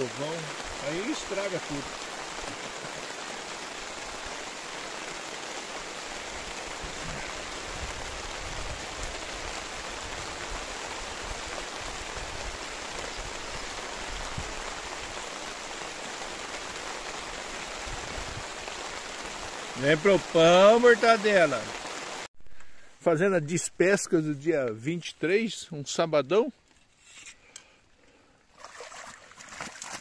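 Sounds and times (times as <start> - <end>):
rain falling on water: 0.0 - 26.5, 28.0 - 30.0.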